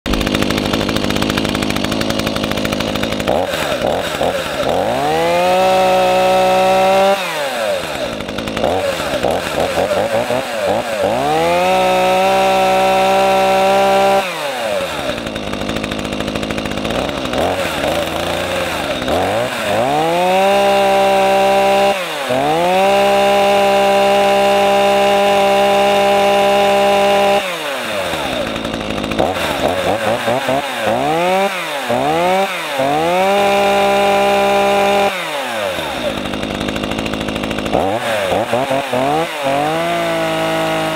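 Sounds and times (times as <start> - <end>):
chainsaw engine revving: 0.1 - 40.9.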